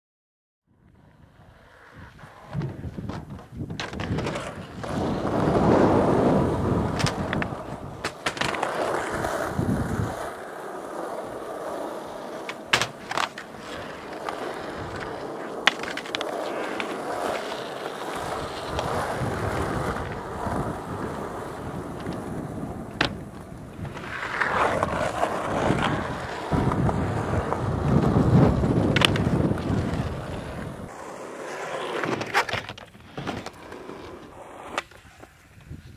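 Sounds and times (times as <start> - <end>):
skateboard wheels rolling on concrete: 0.7 - 35.9
skateboard clacks: 1.7 - 35.9.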